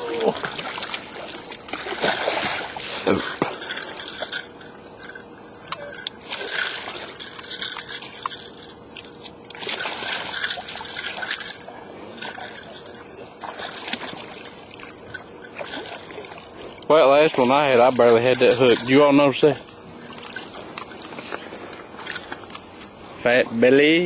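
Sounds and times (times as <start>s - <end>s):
fish thrashing at the surface: 0.0s - 22.9s
water splashing and sloshing: 0.0s - 24.0s.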